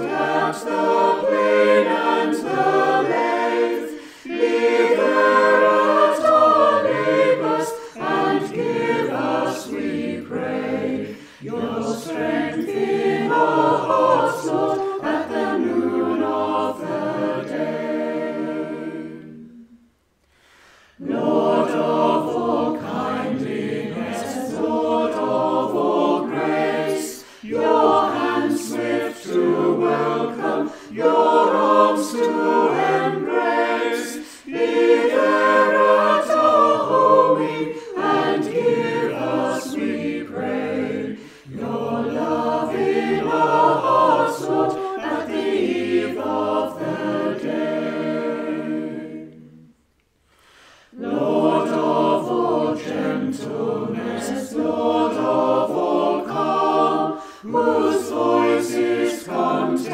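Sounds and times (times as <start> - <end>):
choir singing a hymn: 0.0 - 49.8, 50.4 - 59.9.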